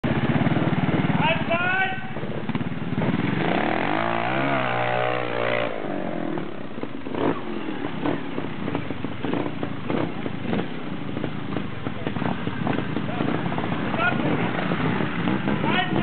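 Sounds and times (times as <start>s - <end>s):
engine bursts and knocks: 0.0s - 16.0s
motorcycle engine revving: 0.0s - 16.0s.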